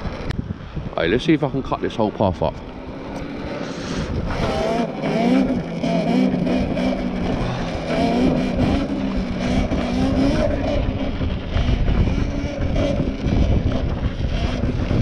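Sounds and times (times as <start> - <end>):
wind buffeting microphone: 0.0 - 15.0
electric dirt bike motor whining: 2.6 - 15.0.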